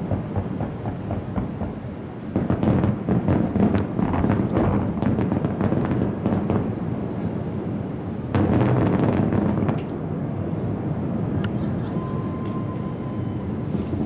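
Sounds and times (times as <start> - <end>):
firework booms: 0.0 - 11.4
firework crackling: 0.0 - 14.0.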